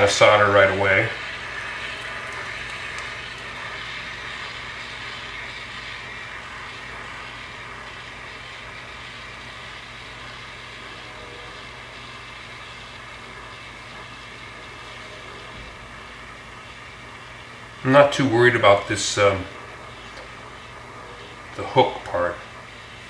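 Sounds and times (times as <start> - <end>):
gas torch hissing: 0.0 - 23.0.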